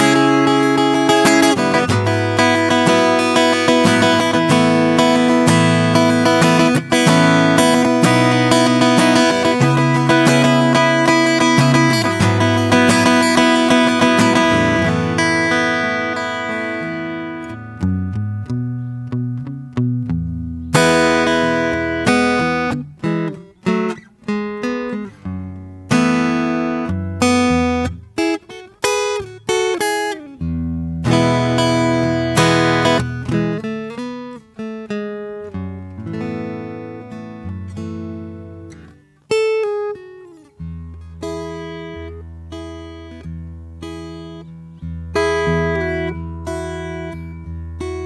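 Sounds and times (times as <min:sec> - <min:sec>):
solo acoustic guitar: 0:00.0 - 0:48.0.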